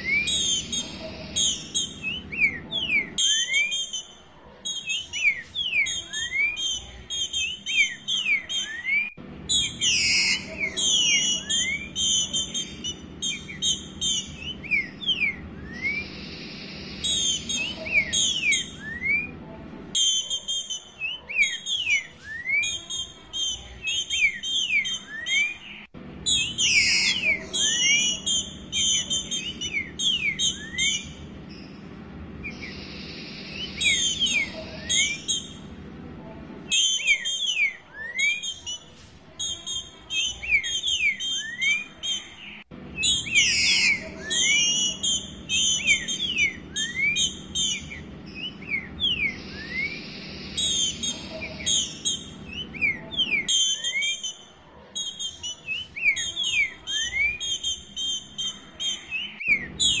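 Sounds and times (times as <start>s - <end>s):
bird chips and whistles: 0.0s - 19.4s, 20.0s - 35.8s, 36.7s - 60.0s.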